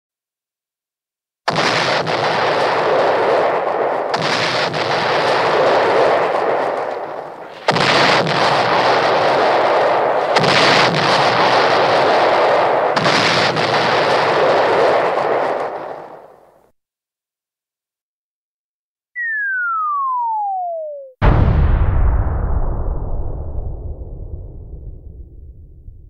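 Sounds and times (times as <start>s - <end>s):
cartoon bomb explosions: 1.5s - 16.4s, 19.2s - 26.0s.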